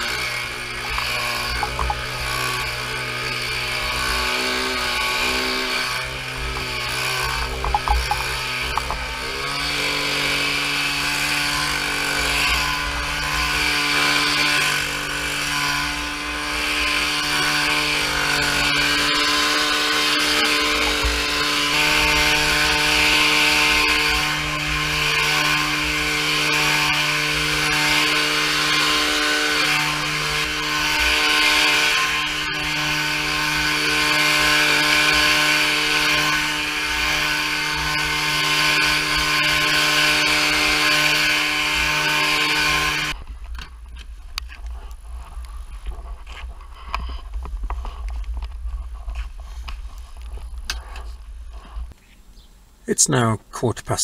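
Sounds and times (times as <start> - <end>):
leaf blower running: 0.0 - 51.8.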